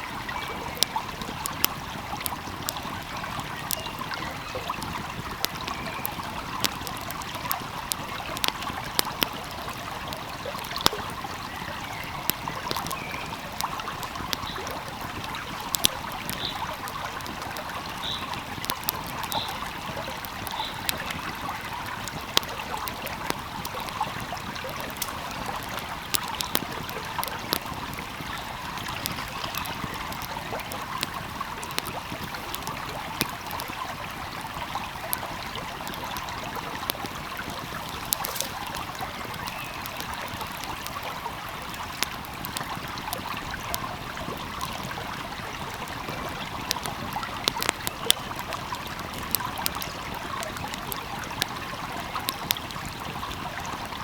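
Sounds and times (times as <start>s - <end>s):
stream flowing: 0.0s - 54.0s
wood fire crackling: 0.0s - 54.0s.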